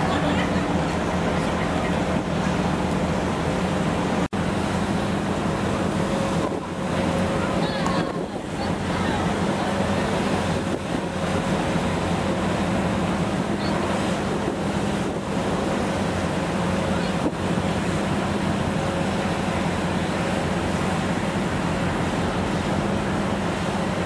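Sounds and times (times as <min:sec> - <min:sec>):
ferry engine hum: 0:00.0 - 0:24.0
wake washing: 0:00.0 - 0:24.0.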